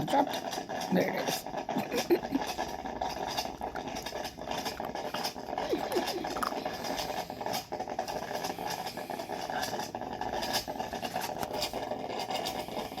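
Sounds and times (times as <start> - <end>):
coffee maker droning: 0.0 - 13.0.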